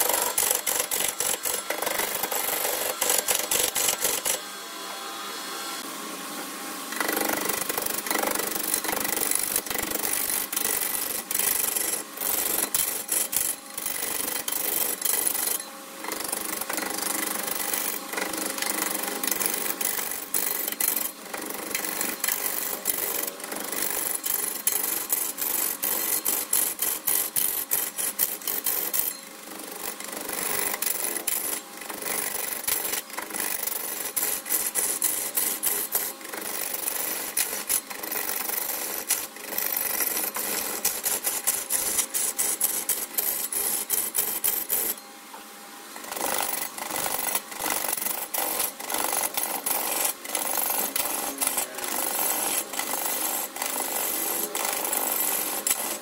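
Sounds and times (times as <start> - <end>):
lathe tool scraping wood: 0.0 - 4.4, 6.9 - 45.0, 46.0 - 56.0.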